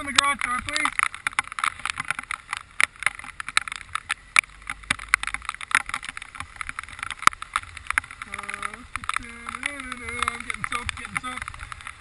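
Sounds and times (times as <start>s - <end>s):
heavy rain patter: 0.0s - 12.0s.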